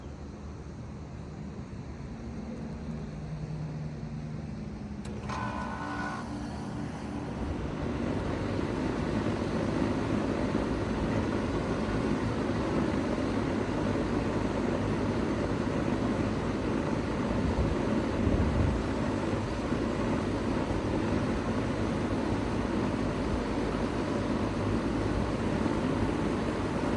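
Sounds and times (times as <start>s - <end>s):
heat pump running: 0.0s - 26.9s.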